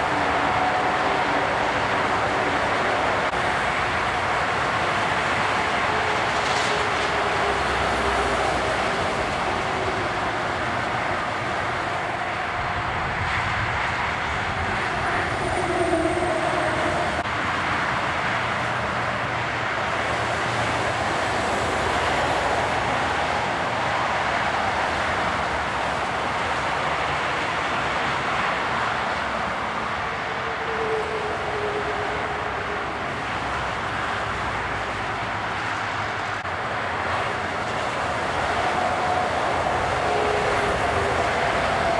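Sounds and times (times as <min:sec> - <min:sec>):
motorway traffic rushing past: 0:00.0 - 0:41.9.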